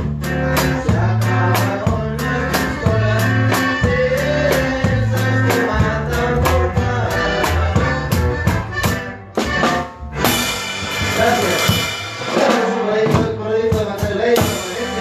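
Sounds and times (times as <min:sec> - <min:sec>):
live band playing: 0:00.0 - 0:15.0
steady drum beat: 0:00.0 - 0:15.0.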